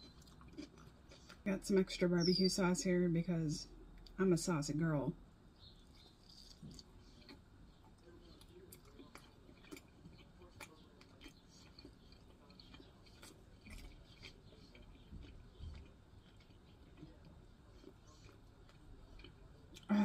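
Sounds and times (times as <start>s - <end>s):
soft chewing: 0.0s - 1.5s, 3.7s - 4.2s, 5.6s - 20.0s.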